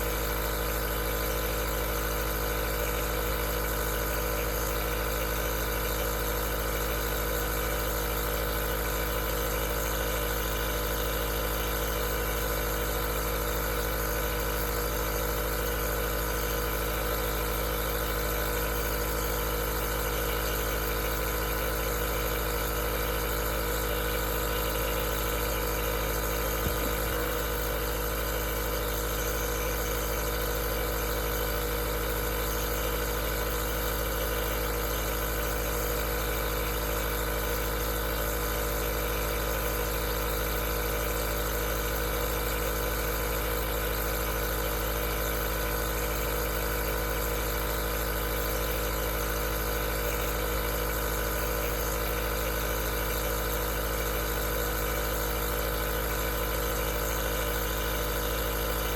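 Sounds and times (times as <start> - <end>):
nebulizer compressor humming: 0.0 - 58.9.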